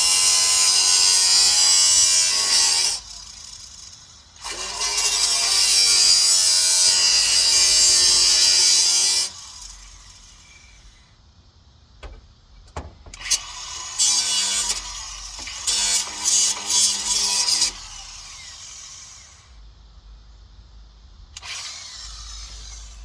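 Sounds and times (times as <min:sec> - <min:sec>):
power tool cutting: 0:00.0 - 0:11.0, 0:12.8 - 0:19.5, 0:21.4 - 0:23.0.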